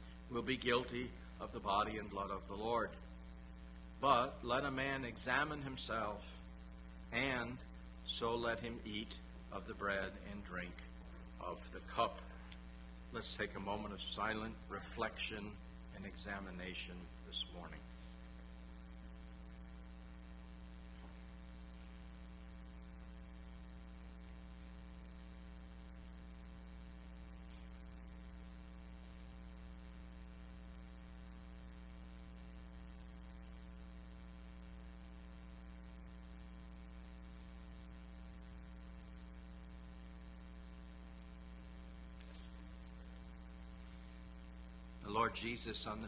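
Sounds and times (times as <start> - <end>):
electrical mains hum: 0.0 - 46.0
faint hiss: 0.0 - 46.0.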